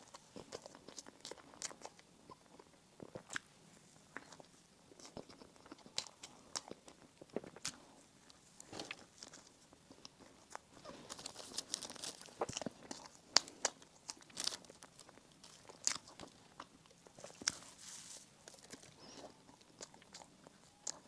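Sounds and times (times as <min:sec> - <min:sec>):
chewing and biting: 0:00.0 - 0:03.5, 0:04.1 - 0:21.0
crisp crunches of pastry: 0:00.0 - 0:03.5, 0:04.1 - 0:21.0.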